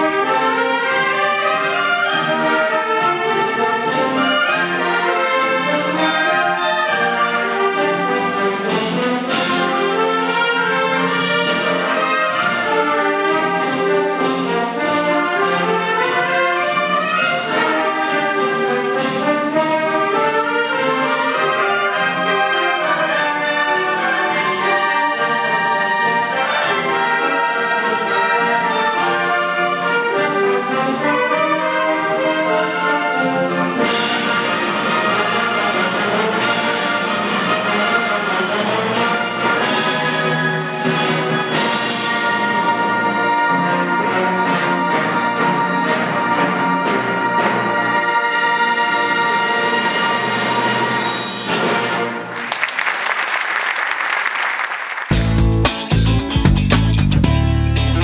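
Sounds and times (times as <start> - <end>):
wind band playing: 0.0 - 55.7.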